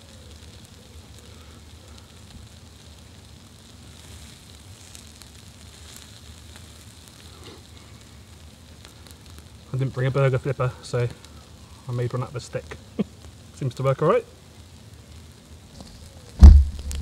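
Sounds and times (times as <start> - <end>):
burgers sizzling on a grill: 0.0 - 17.0
fire crackling faintly: 0.0 - 17.0.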